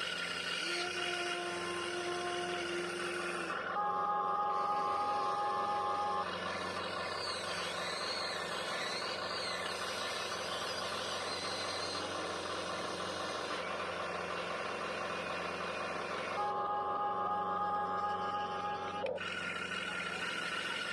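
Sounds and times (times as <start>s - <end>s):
high electric-motor whine: 0.0s - 13.7s, 16.3s - 20.9s.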